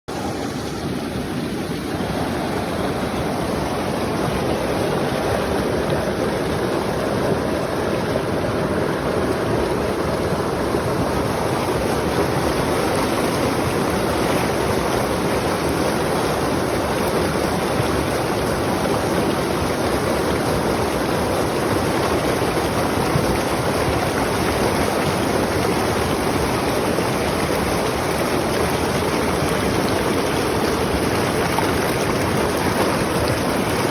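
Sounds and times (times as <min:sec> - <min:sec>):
water rushing: 0:00.1 - 0:33.9.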